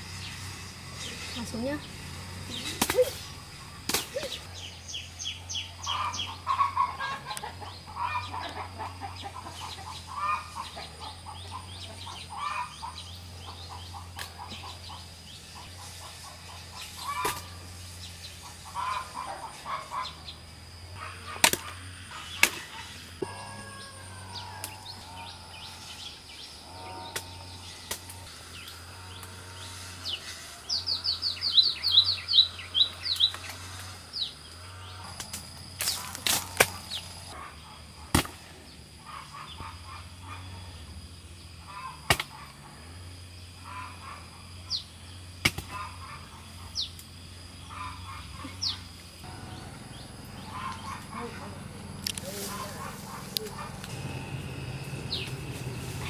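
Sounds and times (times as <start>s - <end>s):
birds singing: 0.0s - 42.6s, 43.4s - 56.0s.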